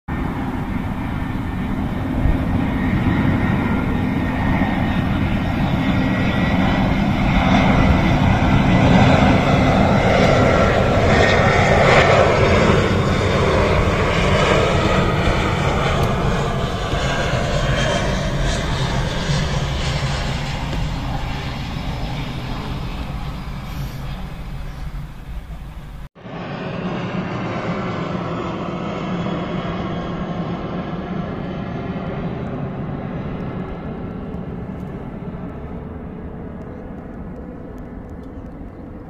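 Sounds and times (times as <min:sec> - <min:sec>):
jet airliner engines roaring: 0:00.1 - 0:39.0.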